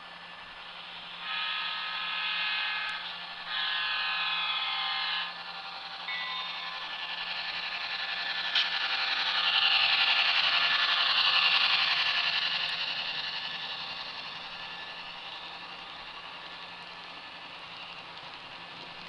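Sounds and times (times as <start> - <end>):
model train wheels clattering: 0.1 - 19.0.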